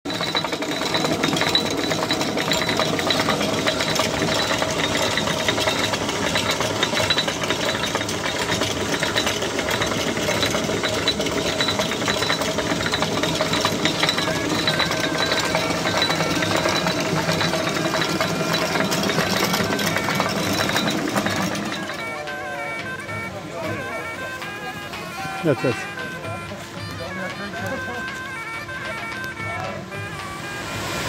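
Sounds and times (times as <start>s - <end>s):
stone mill grinding clatter: 0.1s - 30.5s
constant mill hum: 0.1s - 31.0s.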